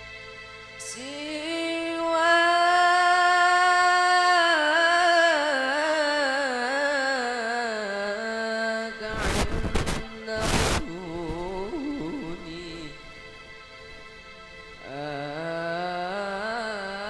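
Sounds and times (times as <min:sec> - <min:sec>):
person singing unaccompanied: 0:00.8 - 0:13.2, 0:14.8 - 0:17.0.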